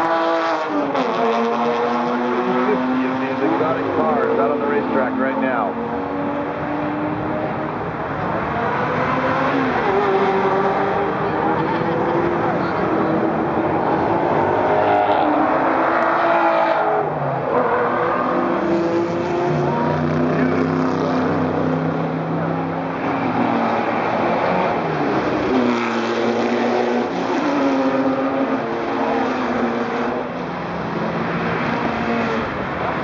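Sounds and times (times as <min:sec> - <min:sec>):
sports car engines accelerating past: 0:00.0 - 0:33.0.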